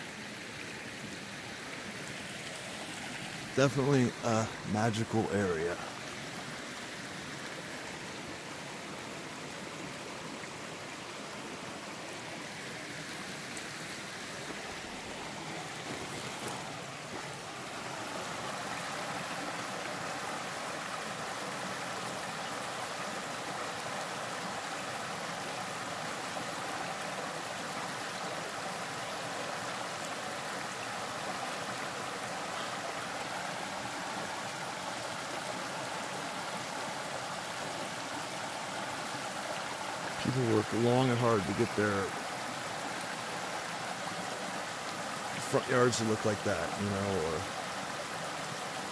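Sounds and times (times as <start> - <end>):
creek burbling over rocks: 0.0 - 48.9.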